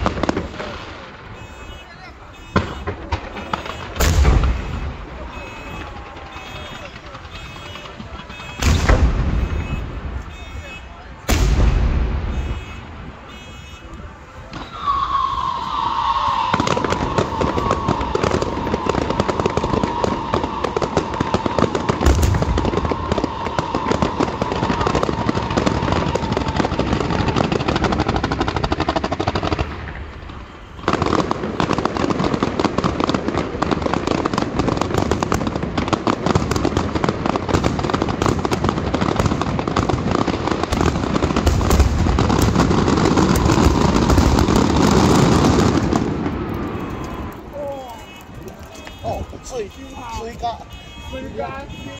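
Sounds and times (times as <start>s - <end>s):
firecrackers crackling: 0.0s - 51.9s
low firework booms: 0.0s - 51.9s.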